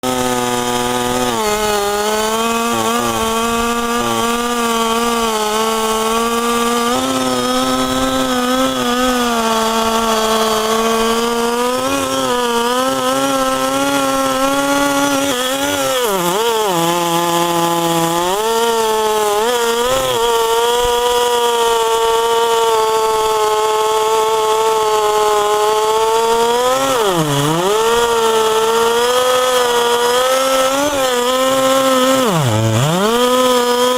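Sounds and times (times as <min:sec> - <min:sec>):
chainsaw cutting a log: 0:00.0 - 0:33.9.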